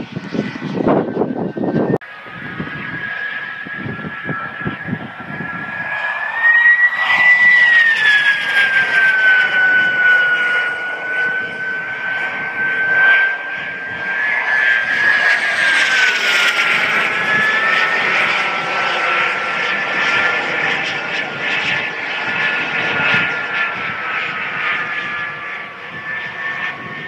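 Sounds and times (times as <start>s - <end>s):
model jet engines whining: 0.0s - 27.0s.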